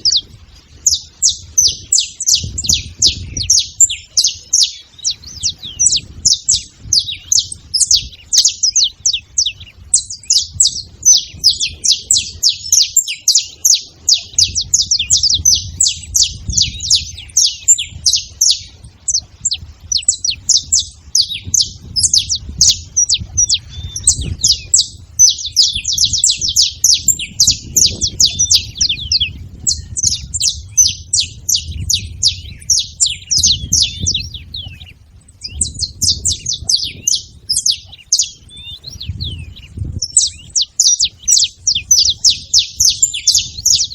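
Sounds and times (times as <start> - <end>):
finch singing chips and trills: 0.0 - 43.9.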